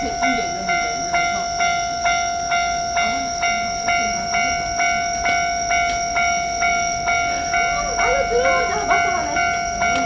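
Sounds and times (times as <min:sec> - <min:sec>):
level crossing warning bell: 0:00.0 - 0:10.0.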